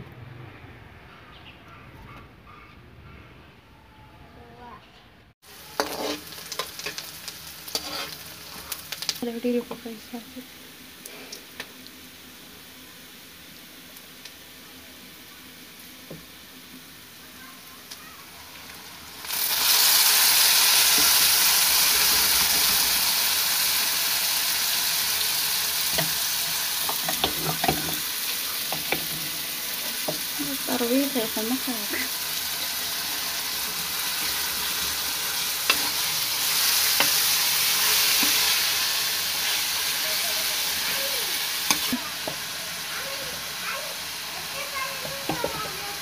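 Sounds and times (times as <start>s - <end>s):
food sizzling in hot oil: 5.4s - 46.0s.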